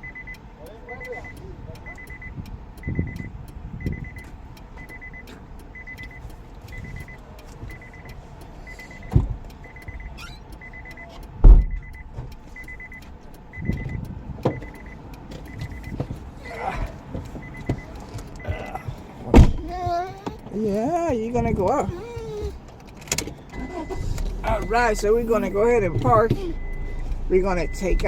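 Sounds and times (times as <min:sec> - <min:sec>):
car warning chime beeping: 0:00.0 - 0:28.0
dull thumps inside vehicle: 0:00.0 - 0:28.0.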